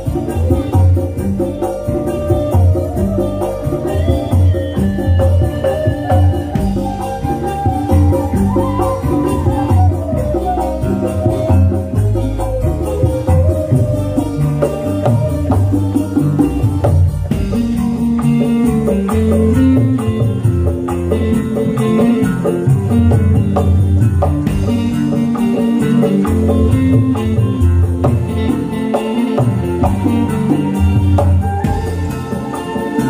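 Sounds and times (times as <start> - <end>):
bass line and melody: 0.0 - 33.0
hand drums struck in quick rhythm: 0.0 - 33.0.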